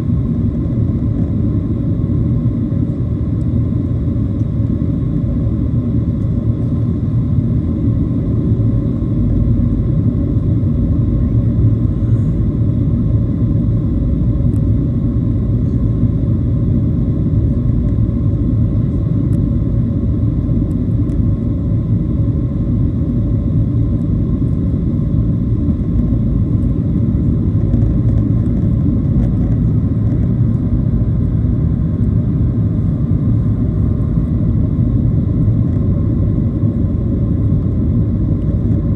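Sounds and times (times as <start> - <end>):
airplane engine rumble in cabin: 0.0 - 38.9.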